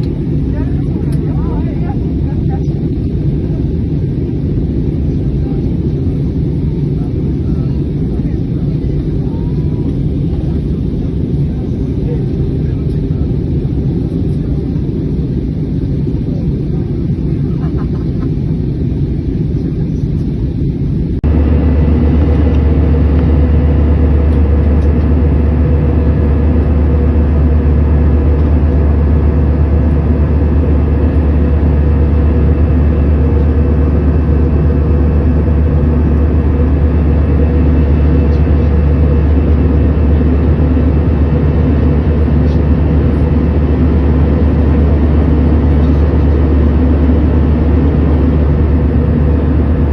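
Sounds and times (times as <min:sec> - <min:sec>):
airliner cabin noise roar: 0:00.0 - 0:49.9
low engine drone: 0:00.0 - 0:49.9.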